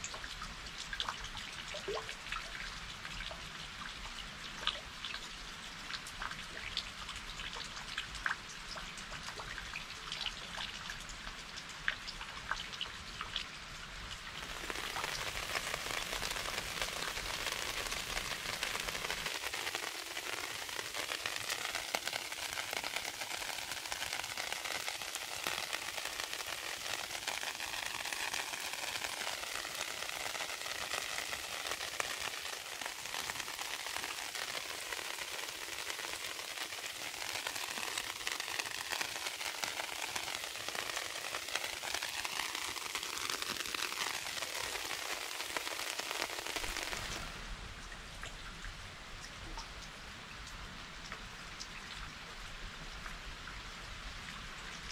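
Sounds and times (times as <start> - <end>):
rain hiss: 0.0 - 54.9
raindrops ticking: 0.0 - 54.9.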